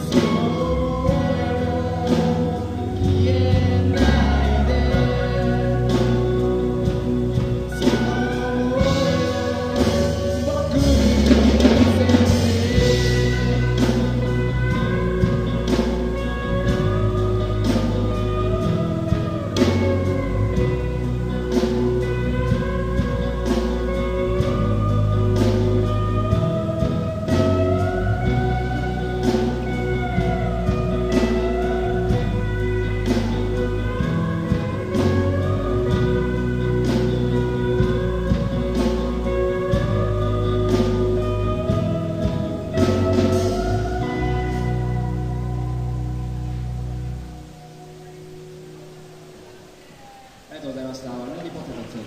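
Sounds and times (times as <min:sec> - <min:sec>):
guitar melody with sliding notes: 0:00.0 - 0:51.8
bass guitar: 0:00.0 - 0:52.0
drum kit: 0:00.0 - 0:52.0.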